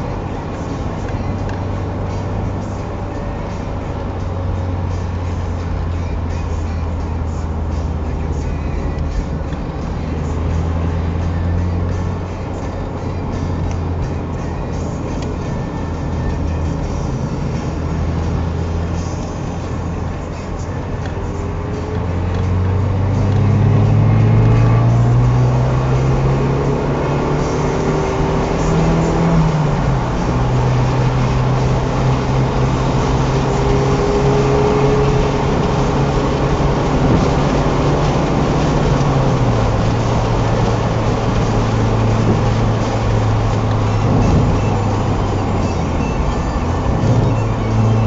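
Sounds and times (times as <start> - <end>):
car engine accelerating: 0.0 - 48.0
road noise inside car: 0.0 - 48.0.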